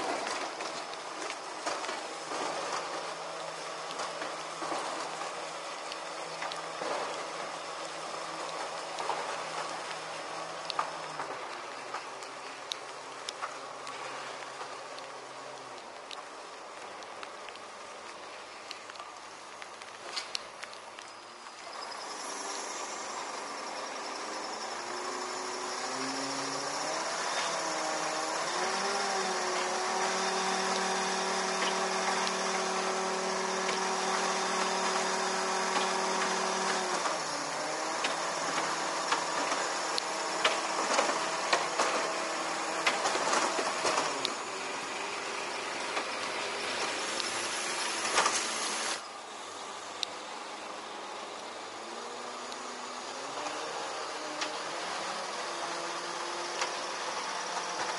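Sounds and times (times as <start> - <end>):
engine and hydraulic winch whine: 0.0 - 57.9.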